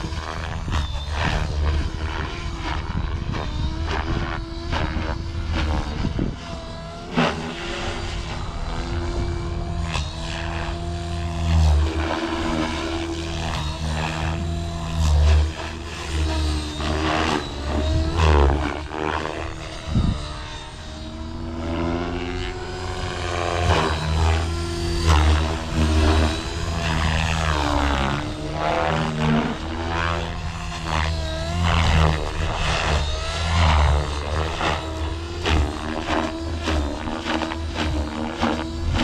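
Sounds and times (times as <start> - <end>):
helicopter rotor and motor whine: 0.0 - 39.0.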